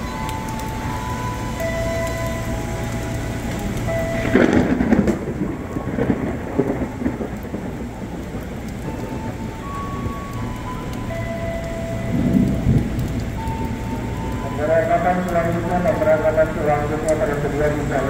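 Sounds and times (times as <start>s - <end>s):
heavy rain falling: 0.0s - 18.0s
thunder rumbling: 0.0s - 18.0s.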